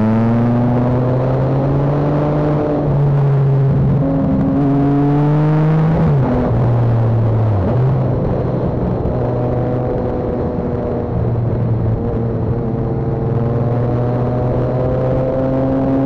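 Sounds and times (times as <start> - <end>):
road noise: 0.0 - 16.0
rushing wind: 0.0 - 16.0.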